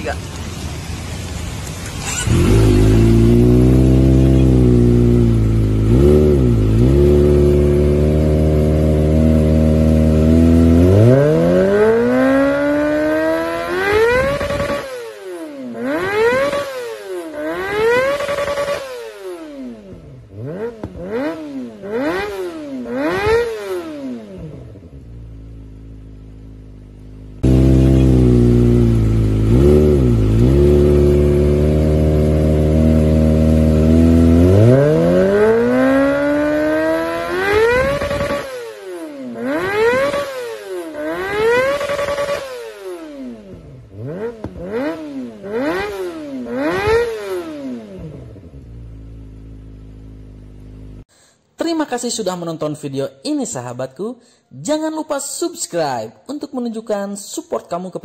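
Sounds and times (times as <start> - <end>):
motorcycle engine revving: 0.0 - 51.1.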